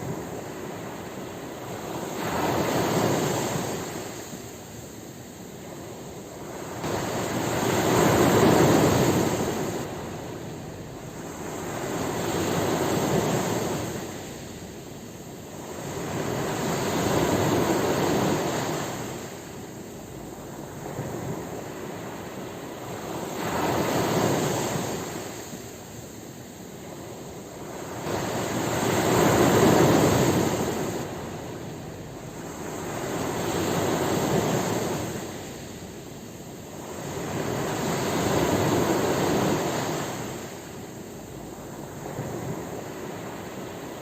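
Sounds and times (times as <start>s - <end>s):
ocean waves washing onto shore: 0.0s - 44.0s.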